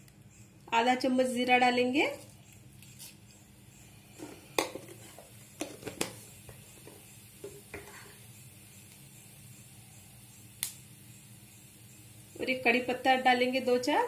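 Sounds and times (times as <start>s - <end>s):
seeds popping in hot oil: 0.0s - 1.6s, 4.1s - 14.0s.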